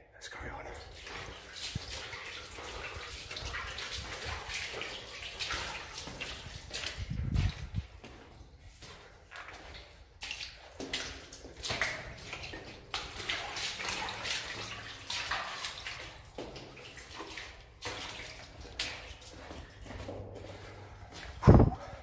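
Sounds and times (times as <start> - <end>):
footsteps splashing through water: 0.7 - 22.0.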